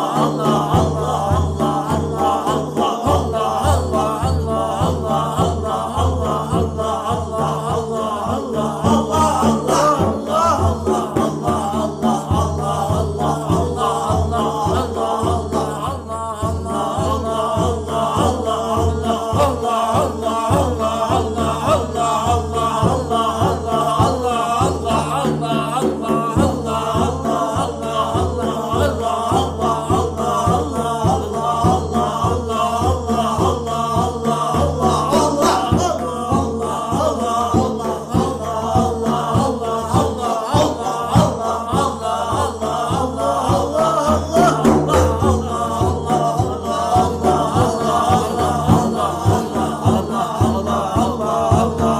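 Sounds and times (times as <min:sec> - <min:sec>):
low rhythmic pulse: 0:00.0 - 0:51.9
steady held drone: 0:00.0 - 0:51.9
voices chanting rhythmically: 0:00.0 - 0:51.9.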